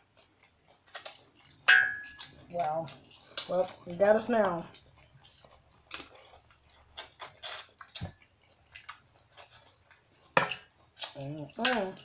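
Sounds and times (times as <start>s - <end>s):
wet chewing: 0.0s - 12.0s.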